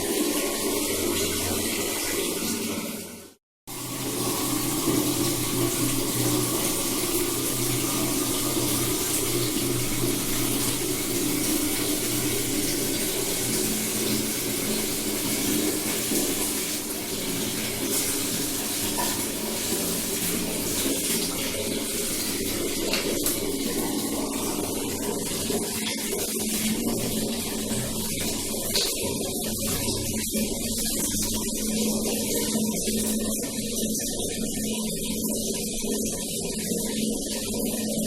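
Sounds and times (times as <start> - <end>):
tap water running and splashing: 0.0 - 38.0.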